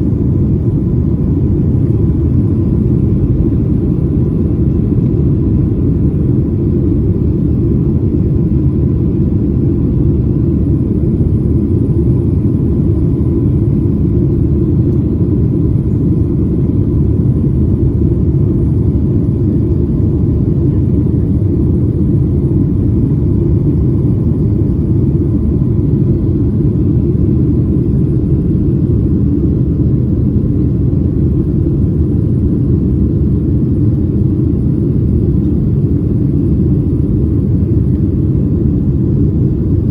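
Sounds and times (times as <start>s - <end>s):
airplane cabin roar: 0.0s - 39.9s
faint steady whine: 0.0s - 39.9s.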